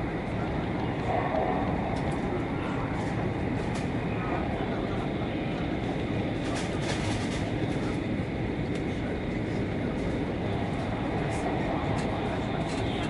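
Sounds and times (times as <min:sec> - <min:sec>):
train running at speed: 0:00.0 - 0:13.0.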